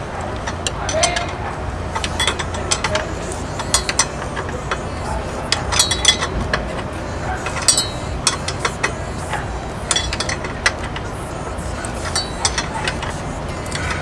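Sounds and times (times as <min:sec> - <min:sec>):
metallic rings: 0:00.0 - 0:14.0
spanner clicking against bolt: 0:00.2 - 0:14.0.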